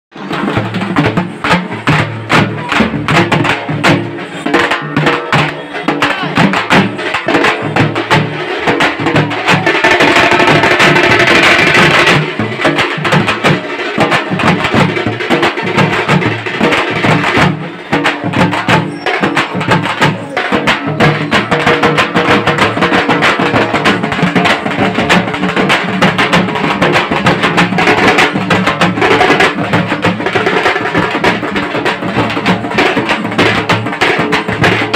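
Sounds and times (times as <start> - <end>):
loud music with fast drums: 0.1 - 34.9.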